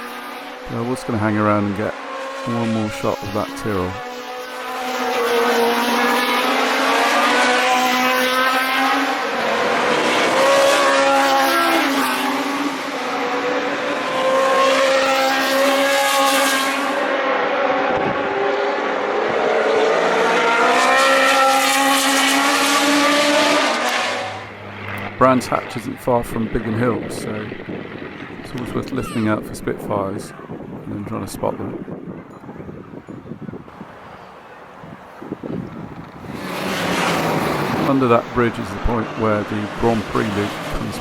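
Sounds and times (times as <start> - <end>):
racing cars passing at high revs: 0.0 - 41.0.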